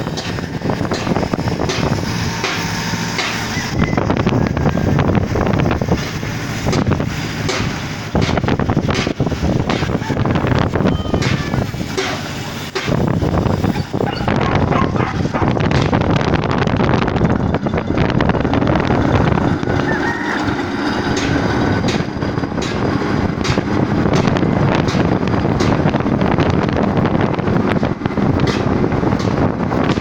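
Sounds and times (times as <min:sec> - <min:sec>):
knocks and clanks: 0:00.0 - 0:26.8, 0:27.7 - 0:30.0
heavy machinery rumble: 0:00.0 - 0:30.0
wind buffeting microphone: 0:00.0 - 0:30.0.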